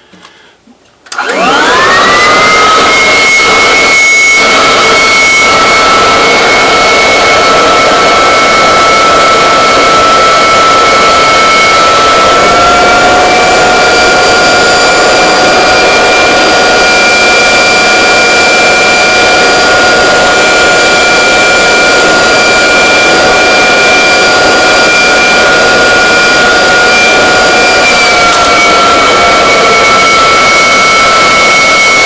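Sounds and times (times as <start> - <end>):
vacuum cleaner motor whining: 1.1 - 32.0.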